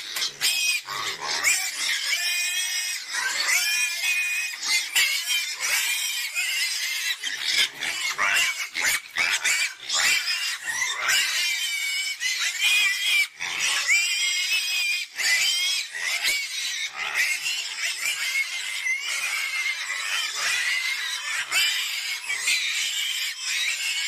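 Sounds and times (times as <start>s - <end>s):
pigs squealing: 0.0s - 24.0s.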